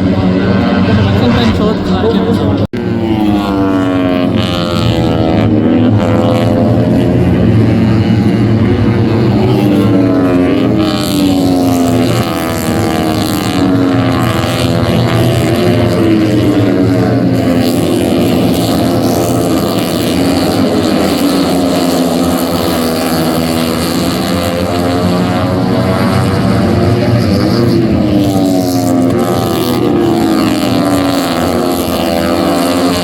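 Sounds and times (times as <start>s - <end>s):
racing motorcycle engines revving: 0.0s - 33.0s.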